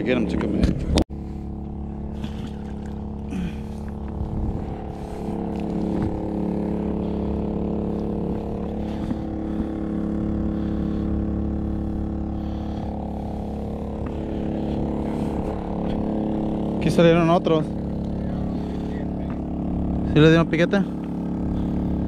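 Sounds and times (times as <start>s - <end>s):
portable generator running: 0.0s - 22.0s.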